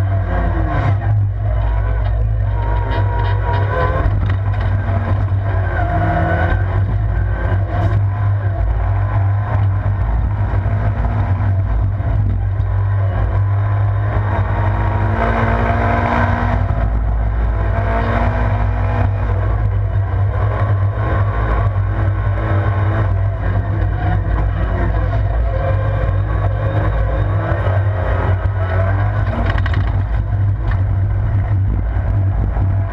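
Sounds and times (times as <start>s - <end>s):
race car engine running hard: 0.0s - 32.9s.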